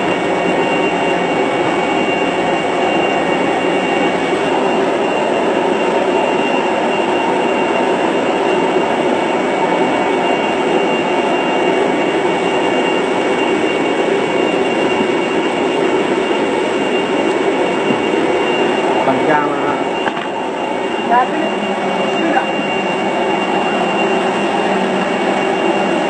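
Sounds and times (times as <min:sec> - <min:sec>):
aircraft turbine roar: 0:00.0 - 0:26.0
high-pitched whine: 0:00.0 - 0:26.0.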